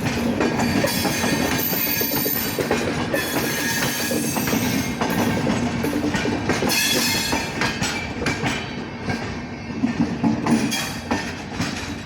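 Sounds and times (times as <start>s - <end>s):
rumble of wheels on track: 0.0s - 12.0s
train wheels clattering over rail joints: 0.0s - 12.0s.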